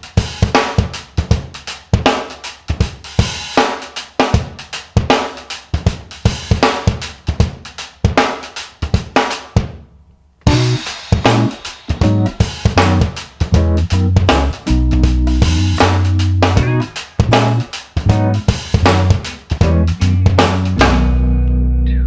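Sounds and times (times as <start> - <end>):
drum kit playing a driving beat: 0.0 - 21.7.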